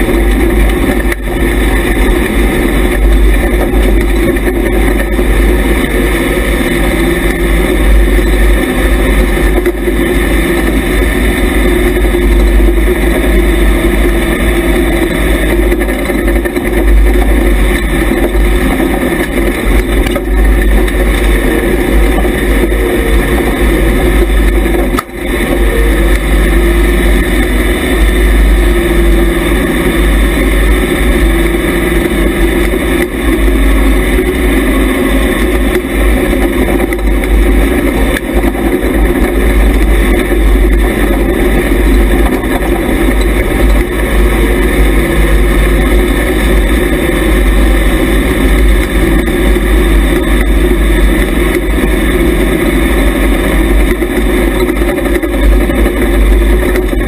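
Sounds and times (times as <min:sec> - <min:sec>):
race car engine running hard: 0:00.0 - 0:57.0.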